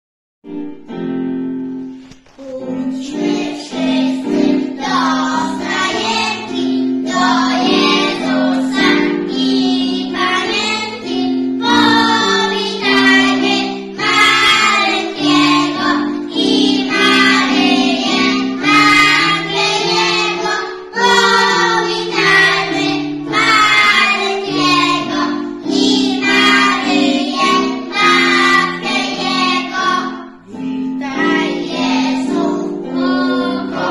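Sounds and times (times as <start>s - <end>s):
children singing a carol: 2.4s - 33.9s.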